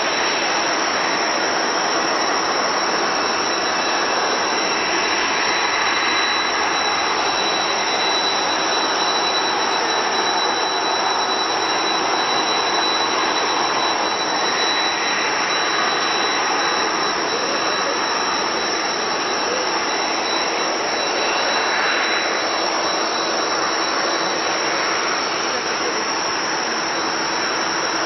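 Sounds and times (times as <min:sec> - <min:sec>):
high engine whine: 0:00.0 - 0:28.0
jet engines roaring: 0:00.0 - 0:28.0.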